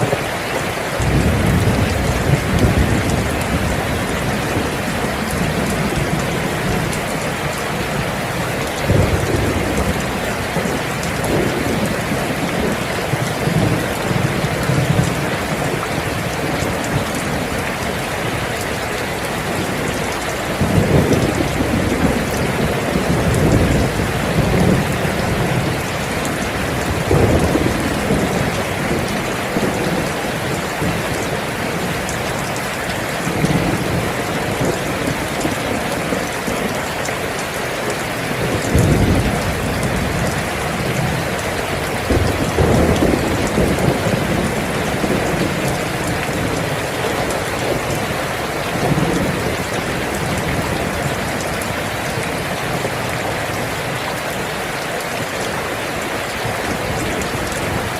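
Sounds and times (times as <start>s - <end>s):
rolling thunder rumbles: 0.0s - 54.2s
steady rain: 0.0s - 57.9s.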